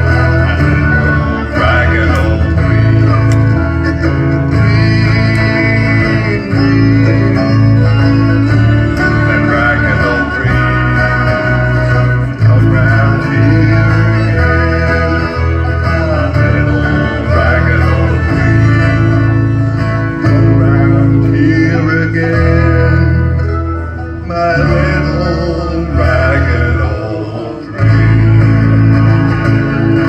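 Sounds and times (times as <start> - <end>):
acoustic guitars: 0.0 - 30.0
banjo: 0.0 - 30.0
bass line: 0.0 - 30.0
fiddle: 0.0 - 30.0.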